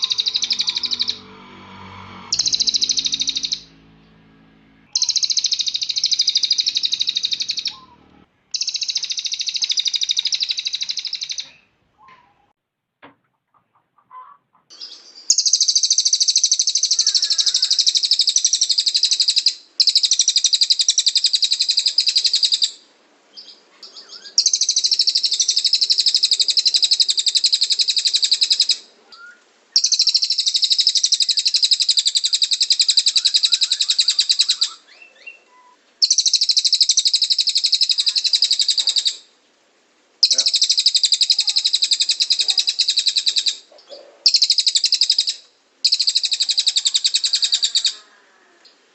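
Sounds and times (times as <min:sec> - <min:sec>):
bird singing rapid high trills: 0:00.0 - 0:11.6, 0:14.7 - 0:22.8, 0:23.4 - 0:39.3, 0:40.2 - 0:43.7, 0:44.3 - 0:48.0.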